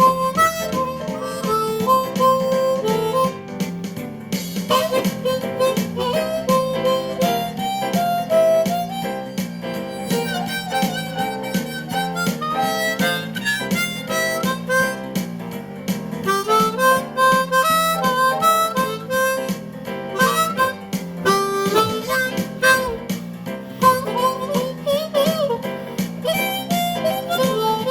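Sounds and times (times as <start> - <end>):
blues harmonica melody: 0.0 - 27.9.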